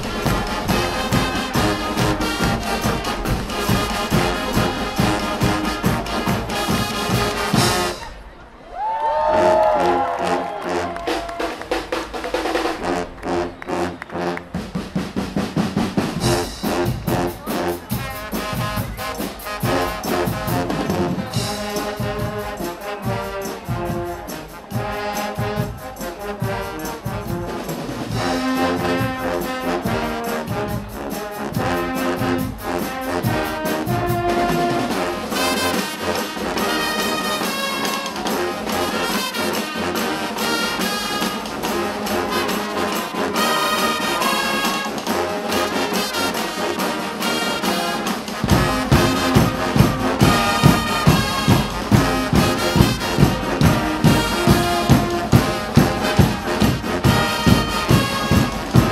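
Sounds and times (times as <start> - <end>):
drums and cymbals: 0.0 - 8.2, 11.0 - 13.1, 14.4 - 58.9
brass band playing: 0.0 - 8.4, 9.2 - 58.9.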